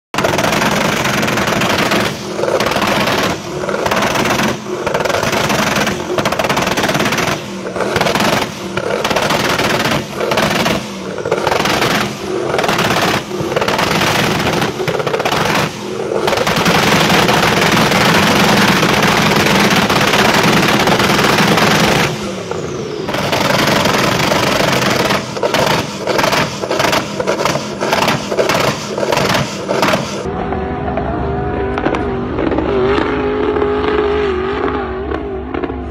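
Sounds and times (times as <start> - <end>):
exhaust popping bangs: 0.1 - 30.3
engine revving hard: 0.2 - 35.9.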